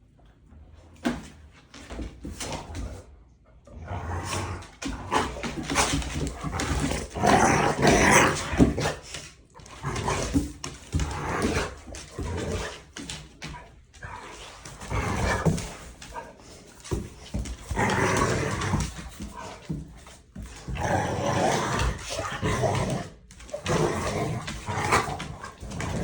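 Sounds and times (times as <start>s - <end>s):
dog playing: 0.7s - 26.0s.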